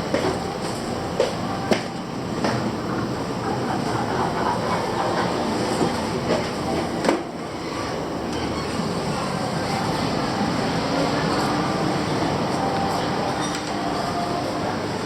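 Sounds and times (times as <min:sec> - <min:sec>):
rumbling city noise: 0:00.0 - 0:15.0.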